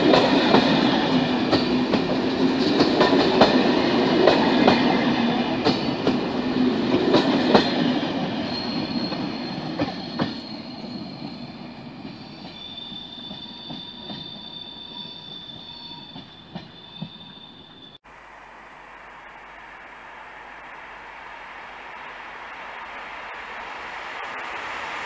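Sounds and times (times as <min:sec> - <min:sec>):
high squeal from train wheels: 0:00.0 - 0:18.0, 0:22.8 - 0:25.0
passenger train rolling past: 0:00.0 - 0:18.0, 0:19.2 - 0:25.0.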